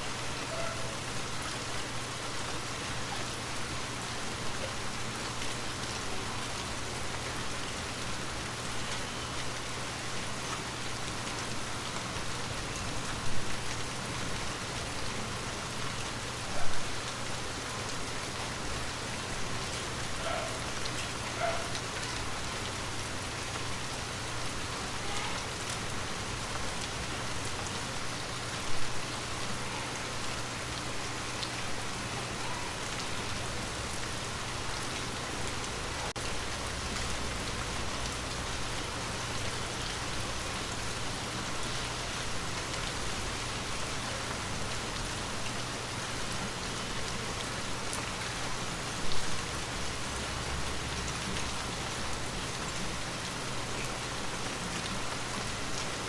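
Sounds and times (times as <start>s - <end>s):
rain on window glass: 0.2s - 56.0s.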